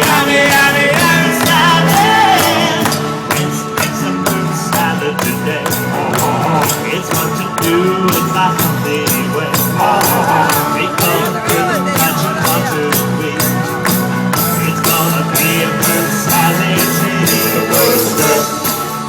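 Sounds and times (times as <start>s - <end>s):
cowbell striking a beat: 0.0s - 19.0s
live band playing: 0.0s - 19.0s.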